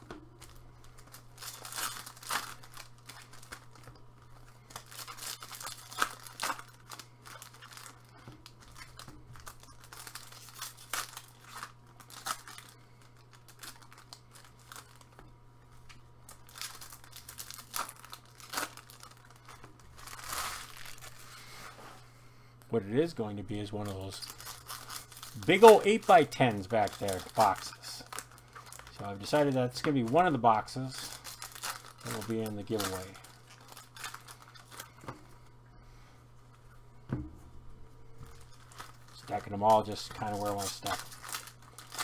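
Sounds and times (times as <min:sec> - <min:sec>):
foil wrappers crinkling and tearing: 0:00.4 - 0:15.3, 0:16.3 - 0:21.6, 0:23.5 - 0:35.0, 0:38.2 - 0:42.0.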